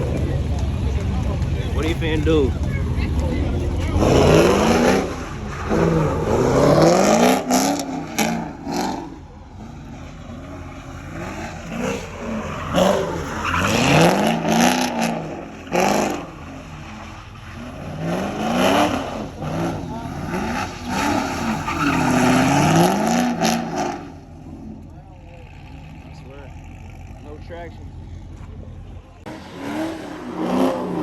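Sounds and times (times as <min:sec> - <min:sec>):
car engine revving hard: 0:01.8 - 0:24.9, 0:29.2 - 0:31.0.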